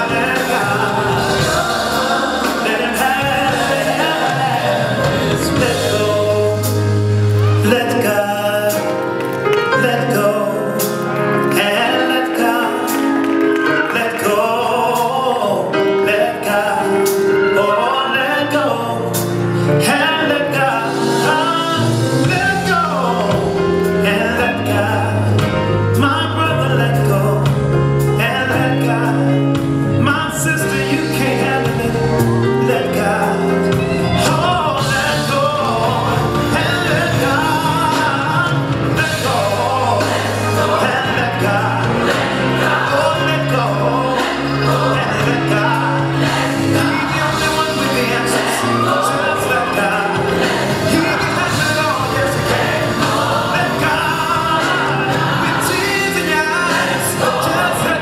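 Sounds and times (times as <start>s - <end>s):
bass and keyboard accompaniment: 0.0s - 58.0s
man singing gospel: 0.0s - 58.0s.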